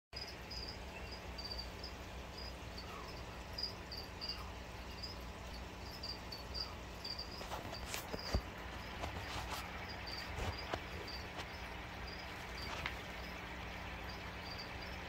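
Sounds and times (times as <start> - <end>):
aquarium equipment hum: 0.2 - 15.0.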